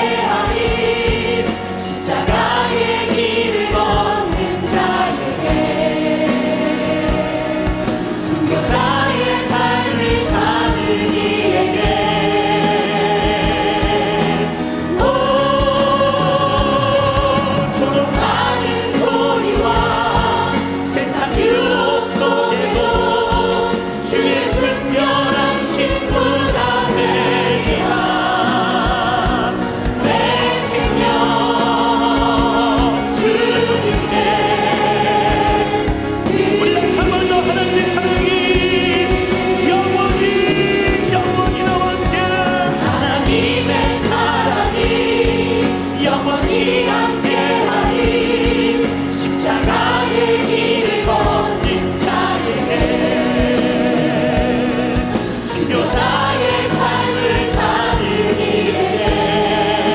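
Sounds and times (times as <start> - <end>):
band with steady drum beat: 0.0 - 59.9
choir singing a hymn: 0.0 - 59.9.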